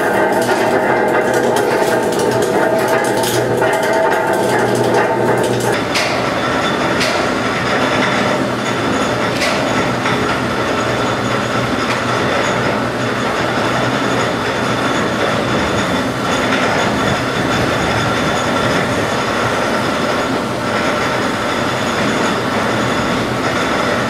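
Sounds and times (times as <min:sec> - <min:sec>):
bridge machinery grinding rumble: 0:00.0 - 0:24.0
constant high whine: 0:00.0 - 0:24.0.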